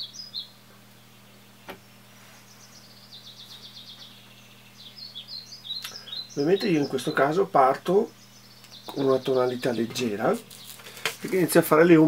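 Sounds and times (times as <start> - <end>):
small bird chirping: 0.0 - 11.5
steady low hum: 0.0 - 12.0.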